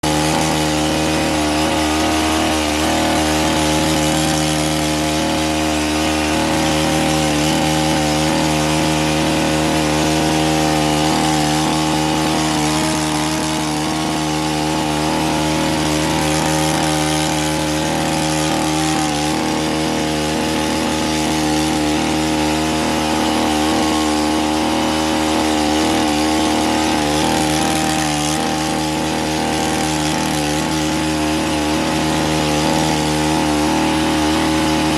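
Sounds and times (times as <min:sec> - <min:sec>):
small petrol engine running: 0:00.0 - 0:34.9.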